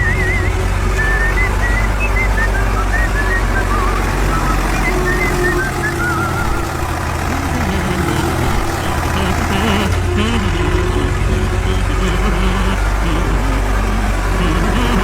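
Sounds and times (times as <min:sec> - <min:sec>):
heavy machine engine rumble: 0:00.0 - 0:15.0.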